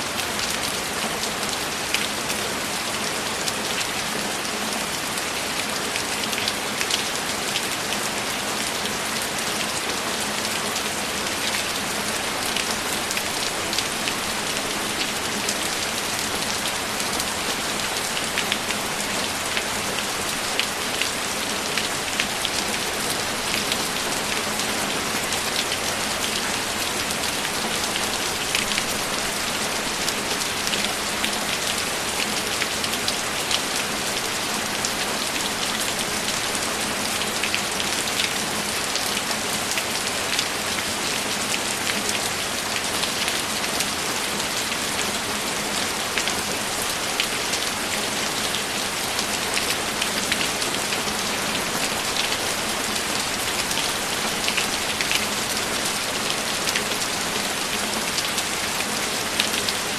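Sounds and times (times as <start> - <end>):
steady rainfall hiss: 0.0 - 59.9.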